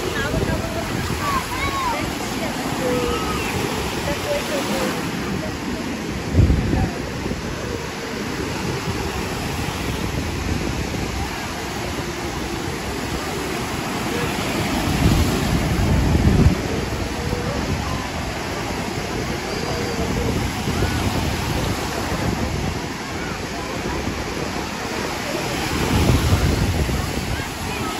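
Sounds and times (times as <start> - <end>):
crowd chatter: 0.0 - 27.9
small waves washing on shore: 0.0 - 27.9
wind rumbling on microphone: 0.0 - 27.9.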